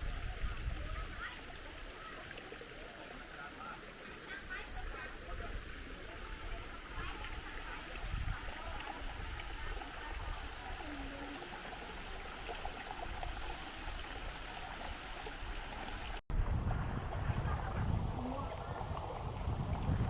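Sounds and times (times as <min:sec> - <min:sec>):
water running over rocks: 0:00.0 - 0:16.2, 0:17.2 - 0:20.0.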